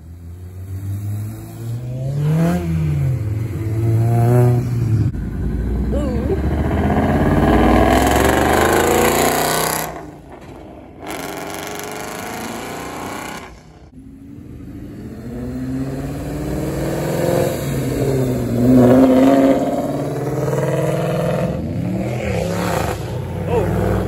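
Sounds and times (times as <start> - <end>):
car engines revving and accelerating: 0.0 - 24.0.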